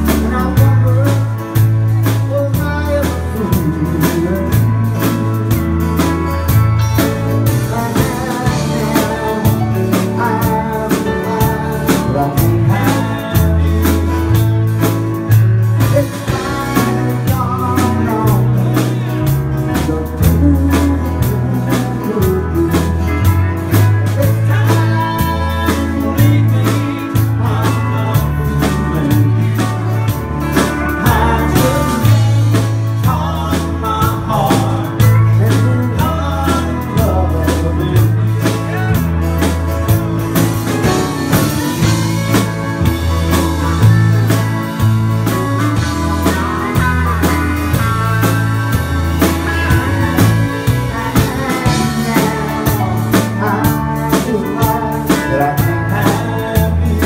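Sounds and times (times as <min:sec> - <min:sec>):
man singing: 0:00.0 - 0:06.1, 0:06.8 - 0:40.0, 0:40.6 - 0:57.0
country band playing: 0:00.0 - 0:57.0.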